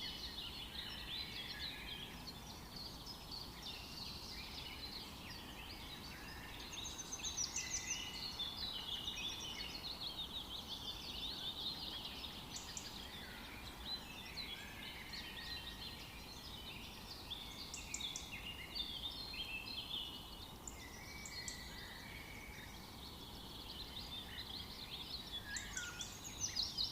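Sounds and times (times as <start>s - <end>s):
birds chirping and trilling: 0.0s - 26.9s
low background hiss: 0.0s - 26.9s.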